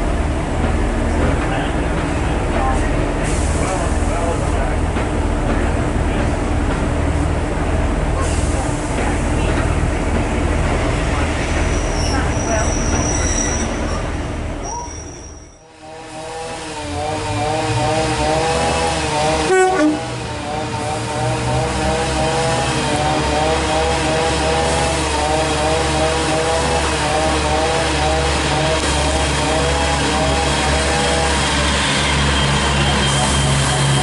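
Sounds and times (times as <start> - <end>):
diesel train engine drone: 0.0 - 34.0.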